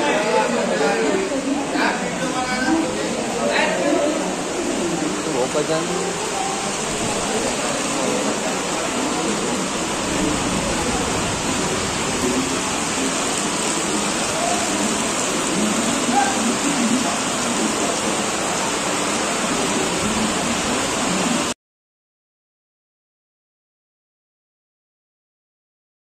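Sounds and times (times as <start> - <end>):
heavy rain pouring: 0.0 - 21.6.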